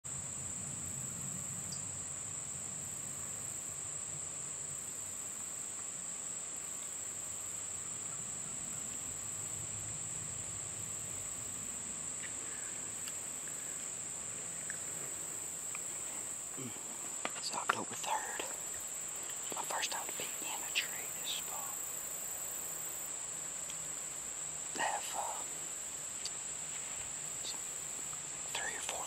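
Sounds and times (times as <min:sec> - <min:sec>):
insects trilling: 0:00.1 - 0:29.0.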